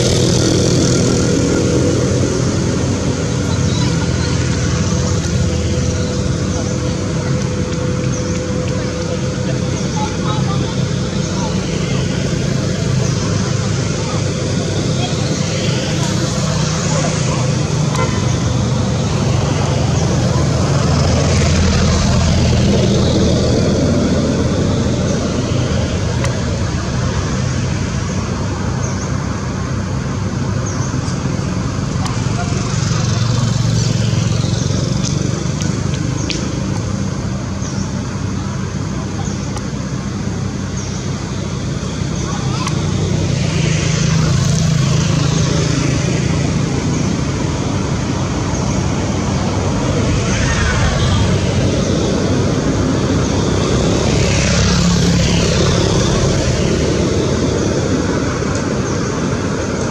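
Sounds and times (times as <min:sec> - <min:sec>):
motor traffic hum: 0:00.0 - 0:59.9.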